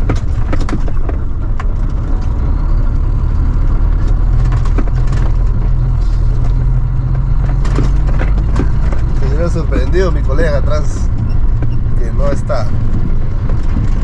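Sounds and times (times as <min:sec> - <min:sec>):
knocks and rattles: 0:00.0 - 0:02.4, 0:03.6 - 0:14.0
truck engine running: 0:00.0 - 0:14.0.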